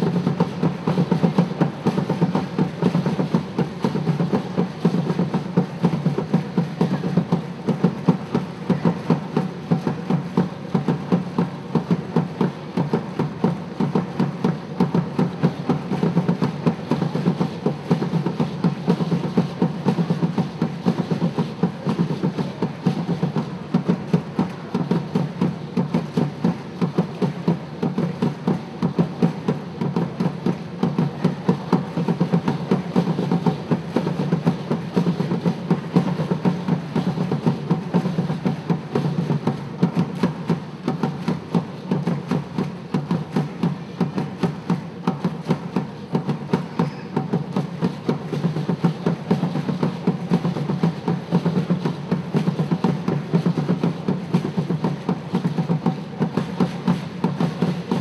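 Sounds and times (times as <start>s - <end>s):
drum ensemble playing dance rhythm: 0.0s - 58.0s.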